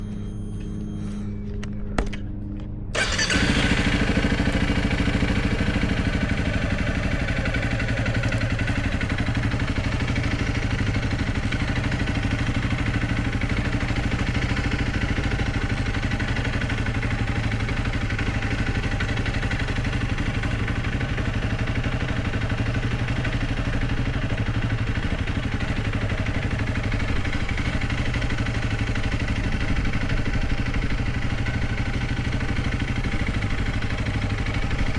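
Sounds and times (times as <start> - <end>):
motorcycle engine running: 2.9 - 34.9.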